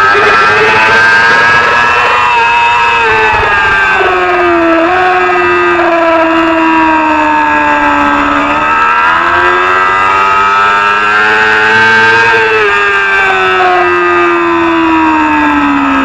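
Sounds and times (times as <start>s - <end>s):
racing motorcycle engine: 0.0s - 16.0s.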